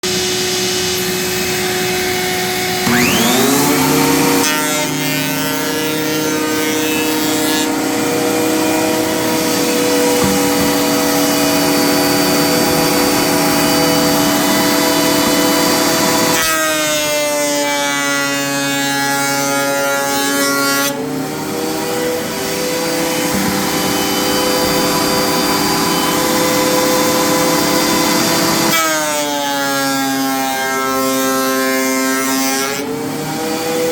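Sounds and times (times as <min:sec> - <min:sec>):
thickness planer motor whine: 0:00.0 - 0:33.9
board passing through planer: 0:00.1 - 0:33.9.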